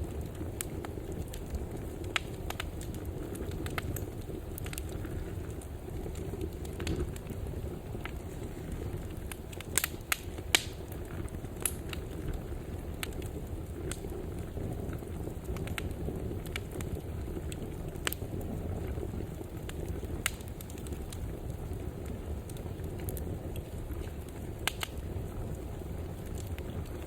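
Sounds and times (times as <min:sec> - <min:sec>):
fire crackling and popping: 0:00.0 - 0:27.0
fire rumbling in a fireplace: 0:00.0 - 0:27.0.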